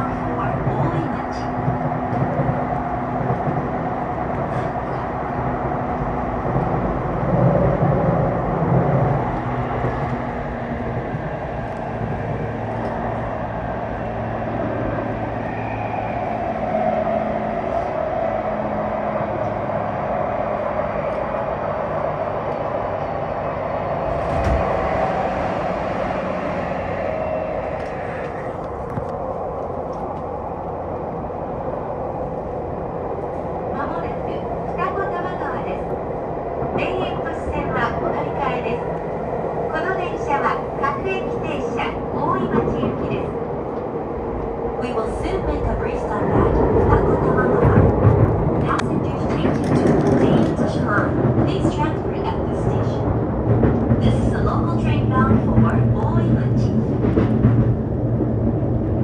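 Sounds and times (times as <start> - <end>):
wheel-on-rail rumble: 0.0 - 59.0.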